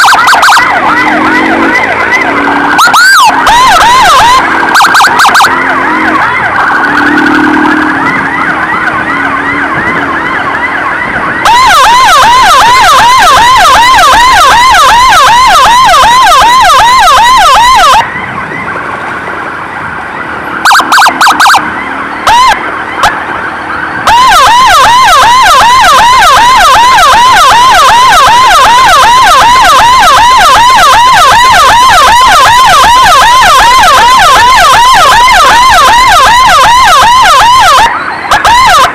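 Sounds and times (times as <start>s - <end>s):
emergency siren yelping: 0.0s - 38.9s.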